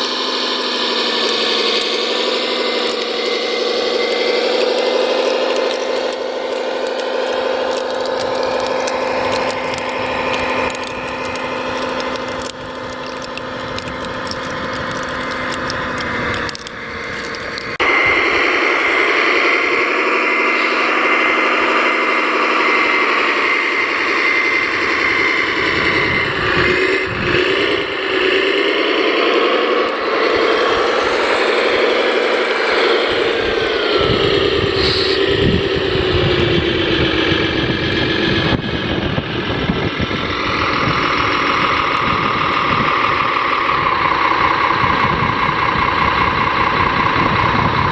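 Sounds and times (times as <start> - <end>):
motor and gear whine: 0.0 - 47.9.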